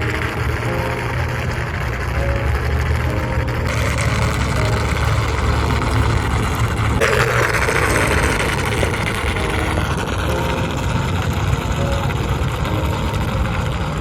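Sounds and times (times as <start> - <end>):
rushing noise: 0.0 - 14.0
small electric motor running: 0.0 - 14.0.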